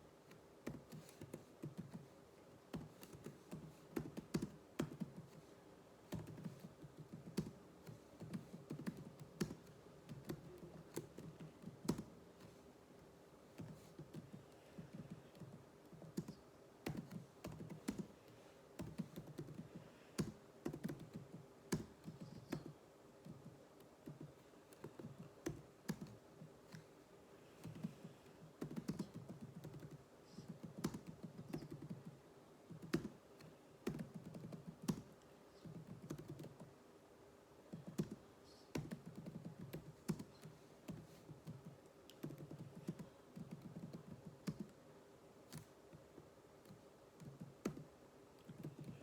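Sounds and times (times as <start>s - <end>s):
typing on a computer keyboard: 0.3s - 2.1s, 2.7s - 5.5s, 6.1s - 12.5s, 13.6s - 18.2s, 18.8s - 26.9s, 27.6s - 36.7s, 37.7s - 44.8s, 46.6s - 47.9s, 48.5s - 49.0s.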